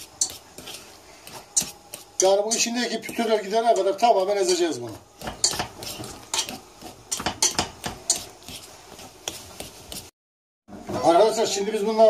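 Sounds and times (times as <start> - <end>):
fork mashing potatoes in pot: 0.0 - 10.1.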